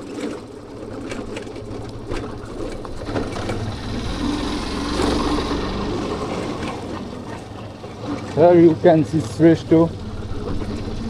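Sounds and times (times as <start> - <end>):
small vehicle engine running: 0.0 - 11.0.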